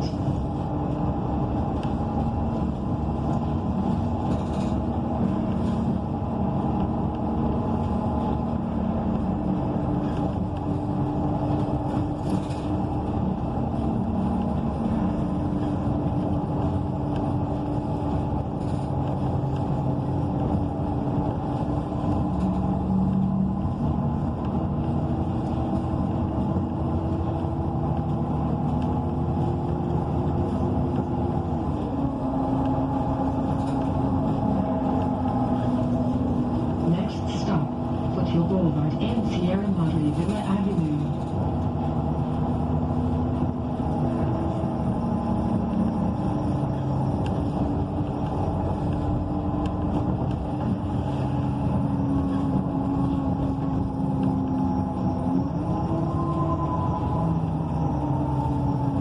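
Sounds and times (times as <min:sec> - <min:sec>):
bus engine running: 0:00.0 - 0:59.0
road rumble: 0:00.0 - 0:59.0.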